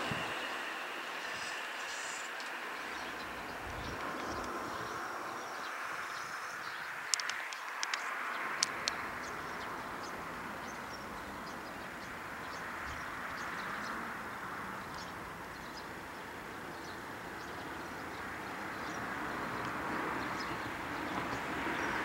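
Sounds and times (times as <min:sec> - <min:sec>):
small birds chirping: 0:00.0 - 0:22.0
steady rushing background noise: 0:00.0 - 0:22.0.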